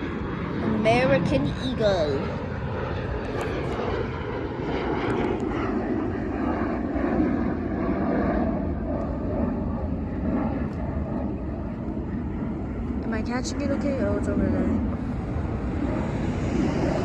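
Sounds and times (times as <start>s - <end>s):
jet airliner engines: 0.0s - 17.0s.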